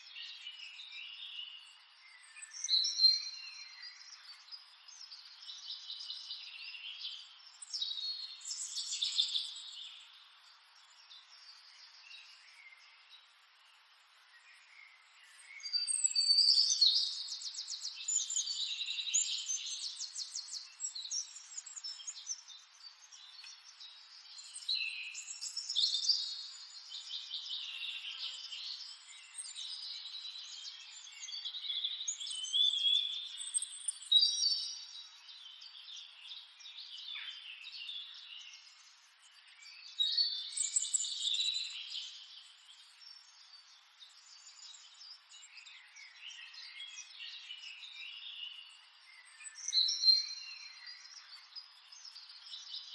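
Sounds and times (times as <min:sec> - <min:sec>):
birds chirping and trilling: 0:00.2 - 0:52.9.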